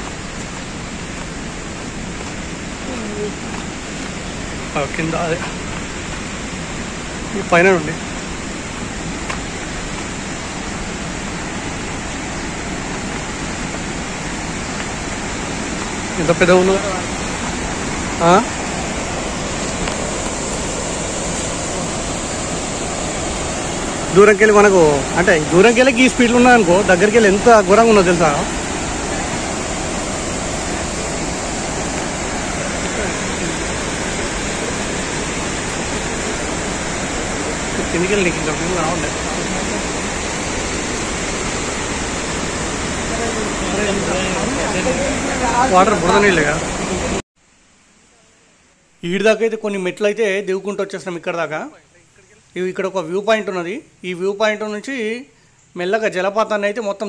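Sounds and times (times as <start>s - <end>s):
waterfall rushing: 0.0s - 47.2s.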